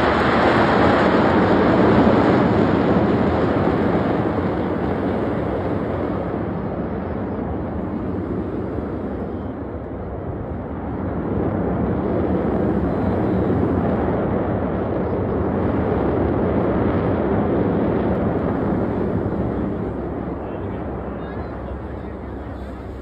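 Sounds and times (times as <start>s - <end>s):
jet engines roaring overhead: 0.0s - 23.0s.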